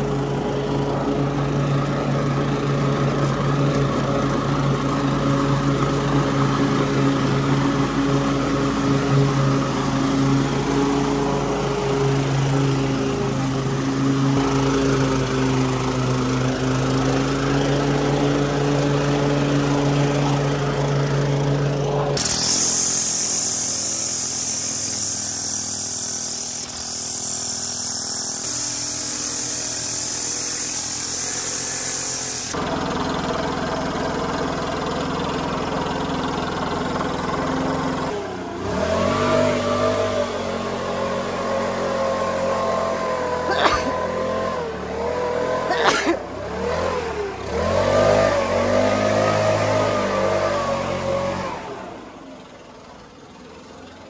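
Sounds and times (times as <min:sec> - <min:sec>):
string trimmer whining: 0:00.0 - 0:32.8, 0:36.9 - 0:52.2
push mower engine running: 0:00.0 - 0:54.0.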